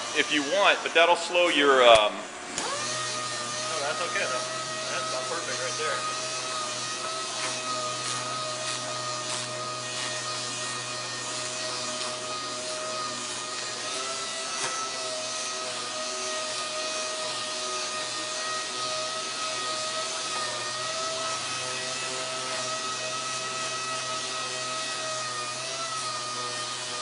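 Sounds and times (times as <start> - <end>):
orbital sander sanding: 0.0 - 1.9, 2.6 - 27.0.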